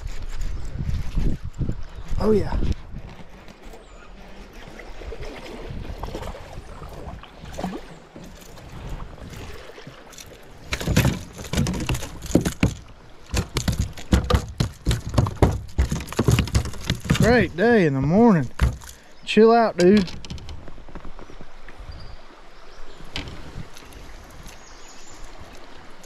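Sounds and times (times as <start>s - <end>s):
water sloshing around a kayak: 0.0s - 26.0s.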